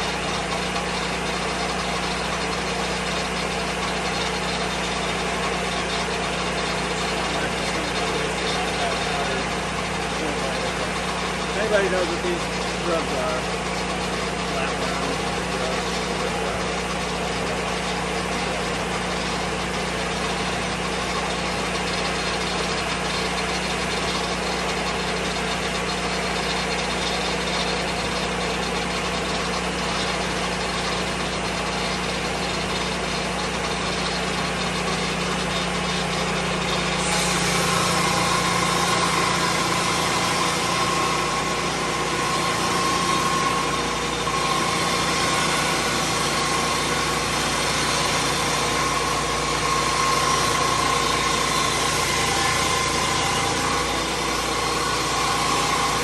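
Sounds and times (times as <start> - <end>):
sawmill engine running: 0.0 - 56.0
steady whine: 0.0 - 56.0.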